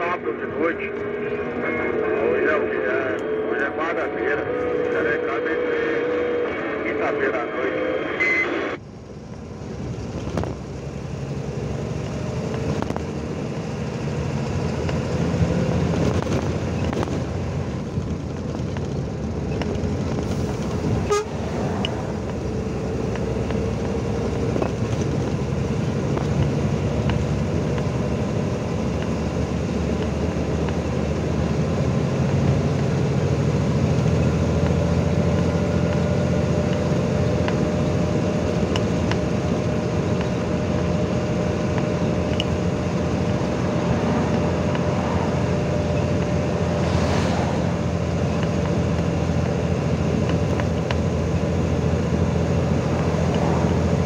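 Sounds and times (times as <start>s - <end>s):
truck engine and tyre noise: 0.0s - 54.0s.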